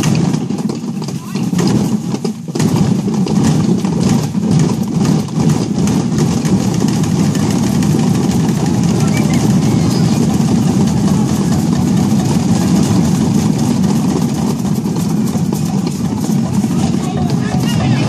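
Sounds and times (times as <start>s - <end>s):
children drumming on buckets: 0.0s - 18.0s.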